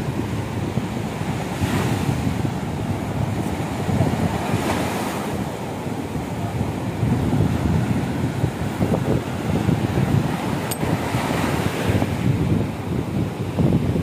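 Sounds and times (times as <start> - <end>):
waves washing onto sand: 0.0 - 14.0
wind rumble on microphone: 0.0 - 14.0.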